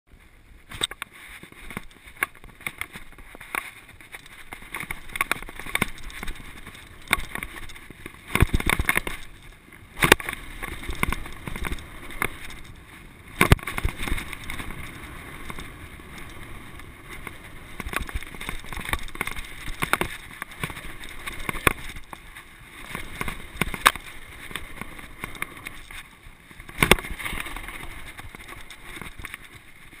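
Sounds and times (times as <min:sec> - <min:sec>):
tyre noise on dirt: 0:00.1 - 0:30.0
wind on microphone: 0:00.4 - 0:30.0
bike rattling and knocking: 0:00.7 - 0:30.0.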